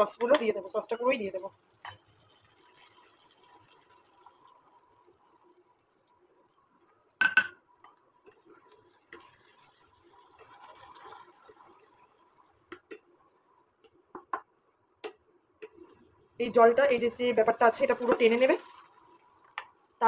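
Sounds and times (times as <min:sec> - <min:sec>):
spatula stirring vegetables: 0:00.0 - 0:07.1, 0:07.7 - 0:14.2, 0:14.9 - 0:20.0.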